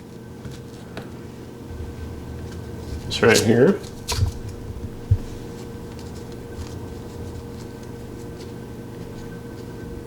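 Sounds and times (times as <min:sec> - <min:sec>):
steady room hum: 0:00.0 - 0:10.0.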